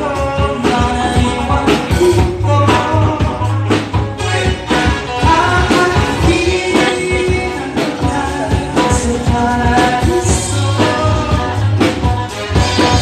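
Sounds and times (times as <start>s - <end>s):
live pop-rock band: 0.0s - 13.0s
man singing: 0.0s - 13.0s.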